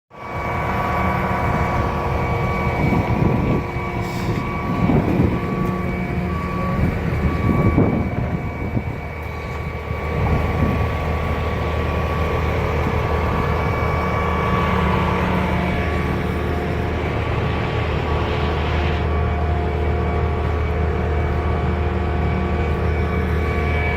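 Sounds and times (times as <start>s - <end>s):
pump truck diesel engine running: 0.1s - 23.9s.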